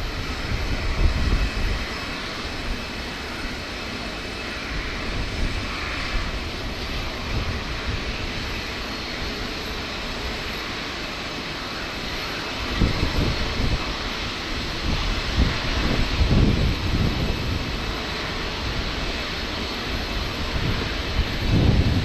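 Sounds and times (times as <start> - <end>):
wind buffeting microphone: 0.0 - 10.9, 12.0 - 22.0
jet engines running: 0.0 - 22.0.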